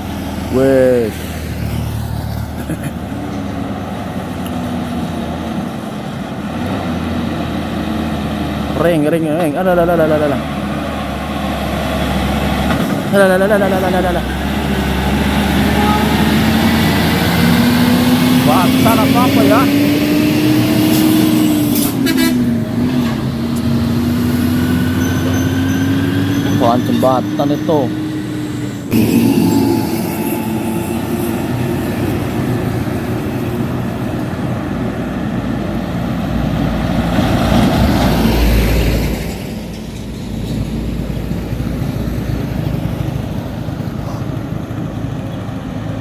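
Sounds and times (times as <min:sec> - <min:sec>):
road noise: 0:00.0 - 0:46.0
vehicle engine hum: 0:00.0 - 0:46.0.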